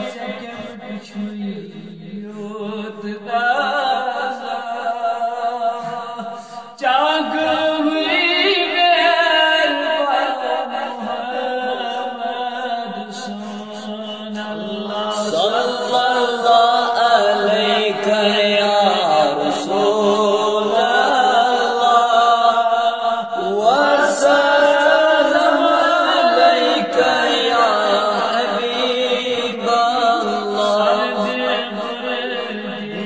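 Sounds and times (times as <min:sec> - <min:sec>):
man chanting: 0:00.0 - 0:33.0.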